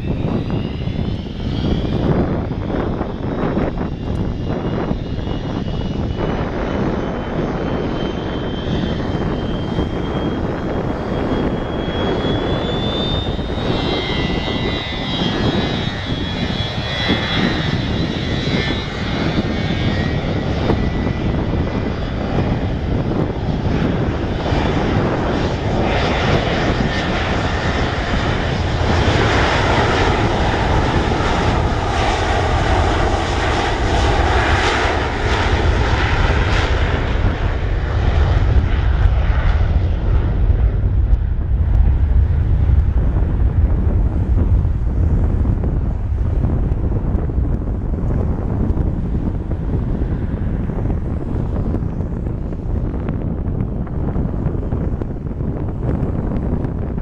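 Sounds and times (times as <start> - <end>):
jet engine rumble: 0.0 - 57.0
jet engine whine rising: 0.0 - 57.0.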